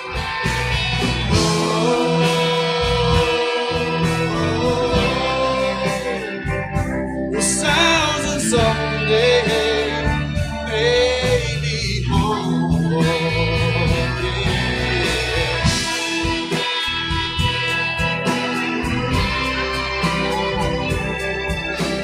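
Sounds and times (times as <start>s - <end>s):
guitar: 0.0s - 22.0s.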